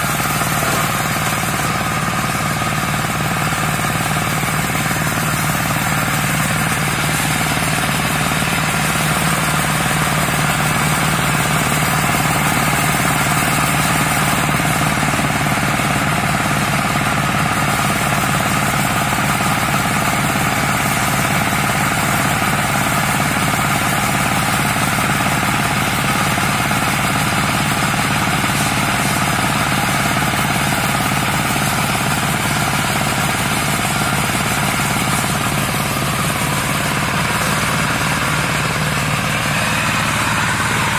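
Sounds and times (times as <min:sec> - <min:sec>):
mower engine pulsing: 0:00.0 - 0:40.9.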